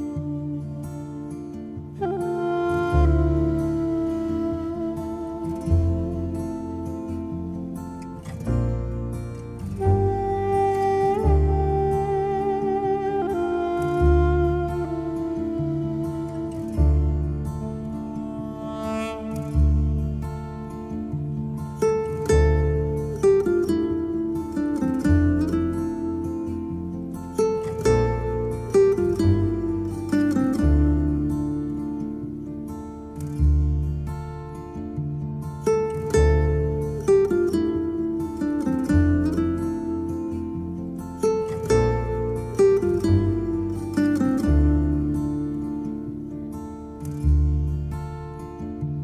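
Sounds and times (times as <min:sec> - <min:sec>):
acoustic guitar chords: 0:00.0 - 0:49.0.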